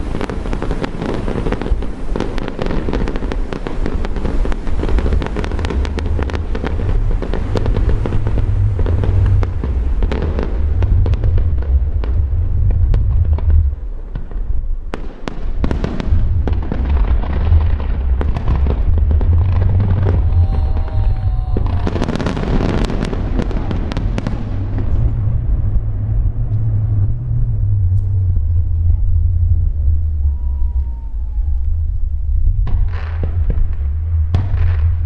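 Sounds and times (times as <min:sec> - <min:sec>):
fireworks booming: 0:00.0 - 0:35.0
fireworks crackling: 0:00.0 - 0:35.0.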